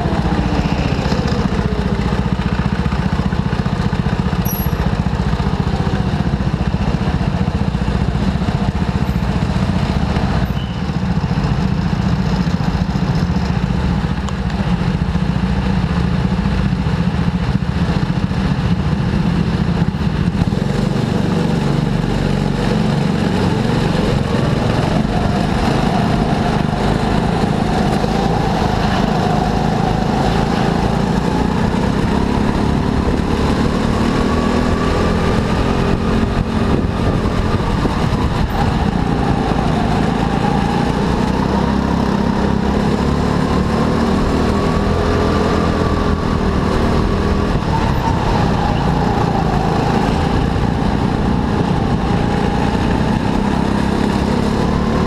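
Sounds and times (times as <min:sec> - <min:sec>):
go-kart engines racing: 0:00.0 - 0:55.0.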